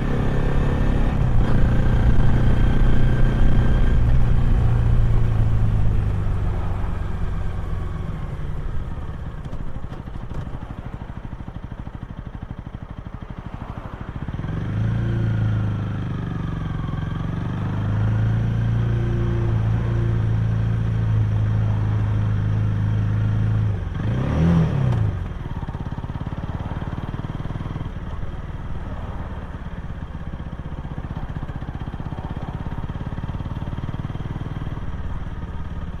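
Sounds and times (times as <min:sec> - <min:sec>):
motorcycle engine and exhaust: 0:00.0 - 0:36.0.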